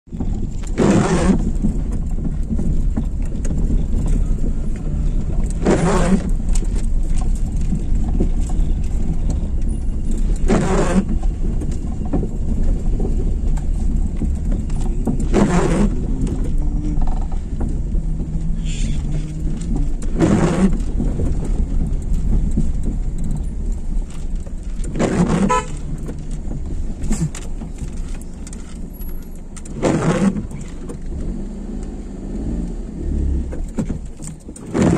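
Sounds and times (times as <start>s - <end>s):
low vehicle rumble: 0.0s - 34.9s.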